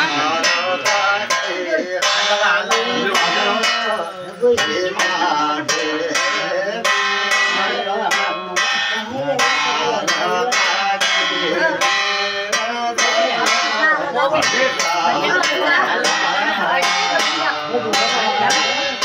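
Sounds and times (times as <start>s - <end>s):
metal plate struck with stick: 0.0s - 19.0s
person chanting: 0.0s - 19.0s.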